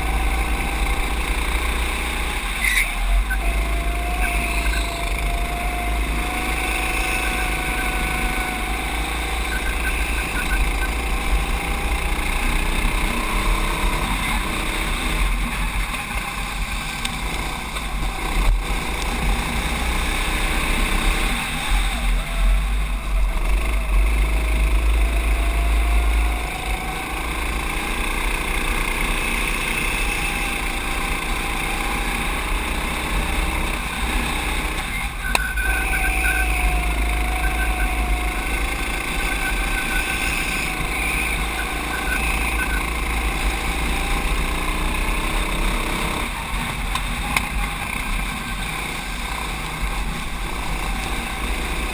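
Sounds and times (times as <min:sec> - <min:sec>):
kart engine: 0:00.0 - 0:51.9.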